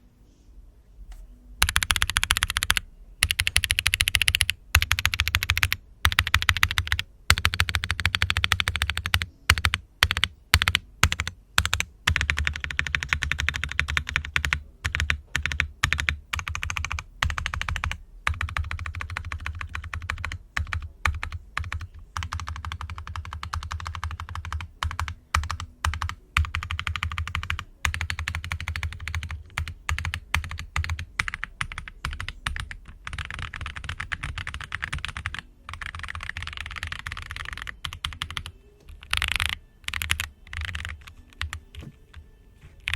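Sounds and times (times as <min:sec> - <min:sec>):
fast typing on mechanical keyboard: 0:01.6 - 0:41.9.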